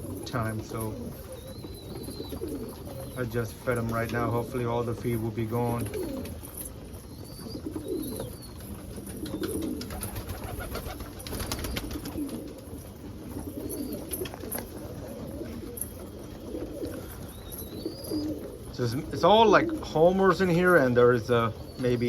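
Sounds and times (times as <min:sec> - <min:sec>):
pigeons cooing: 0:00.0 - 0:22.0
pigeons pecking grain: 0:00.0 - 0:22.0.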